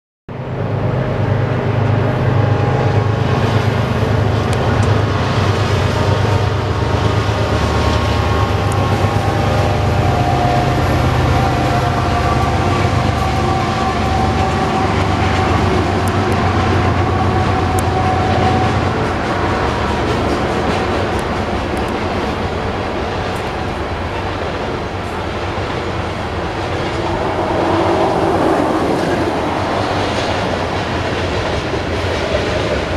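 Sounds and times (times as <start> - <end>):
freight train wheels rumbling: 0.3 - 32.9.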